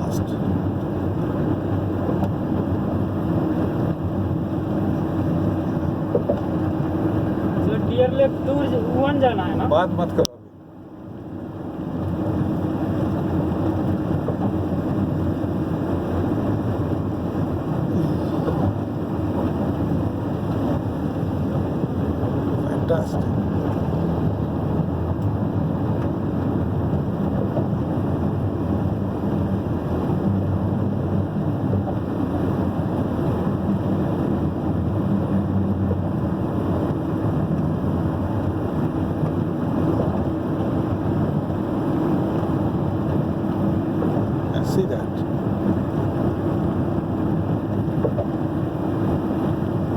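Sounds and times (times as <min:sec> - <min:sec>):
vehicle on wet road: 0:00.0 - 0:49.9.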